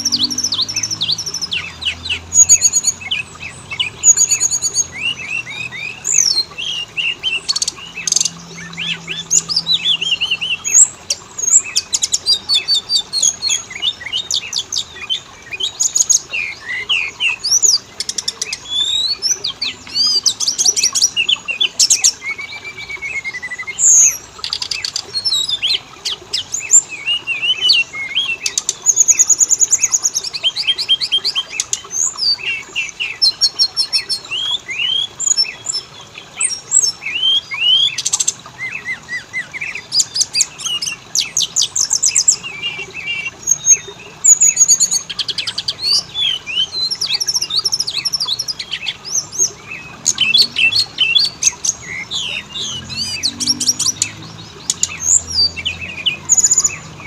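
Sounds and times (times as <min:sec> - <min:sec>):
songbird singing whistles and trills: 0:00.0 - 0:57.0.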